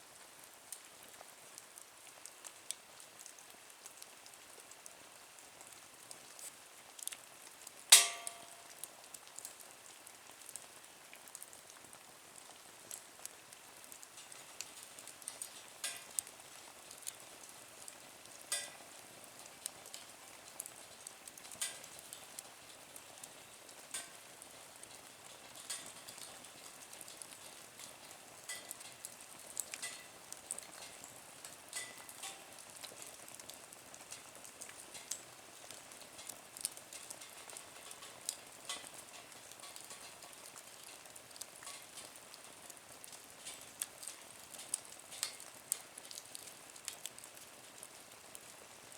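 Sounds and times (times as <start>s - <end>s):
soft hiss of fire: 0.0s - 48.9s
wood fire crackling: 0.2s - 48.9s.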